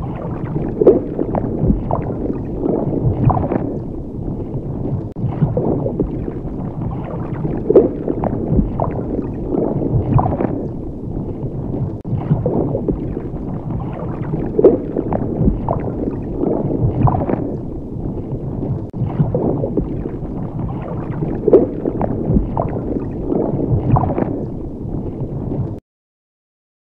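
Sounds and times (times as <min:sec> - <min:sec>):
water bubbling and gurgling: 0:00.0 - 0:25.8.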